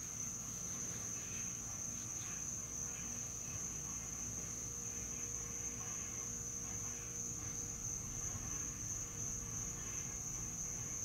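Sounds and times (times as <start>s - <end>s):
crickets trilling: 0.0s - 11.0s
faint low hum: 0.0s - 11.0s.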